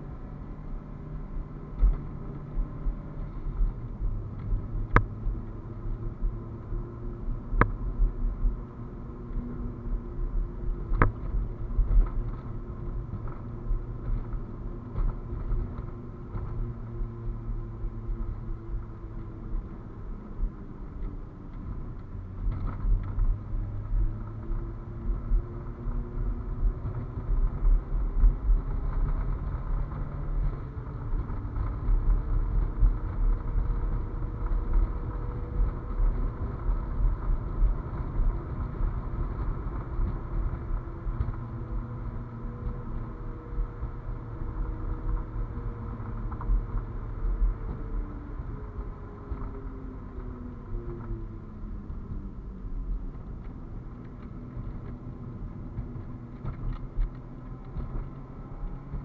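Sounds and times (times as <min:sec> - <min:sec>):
car engine from inside cabin: 0:00.0 - 0:59.0
road and wind rumble: 0:00.0 - 0:59.0.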